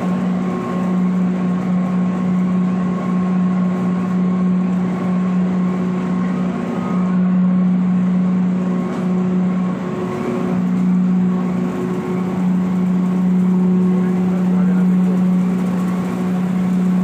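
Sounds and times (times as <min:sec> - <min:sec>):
coal grinding machine humming: 0:00.0 - 0:17.0.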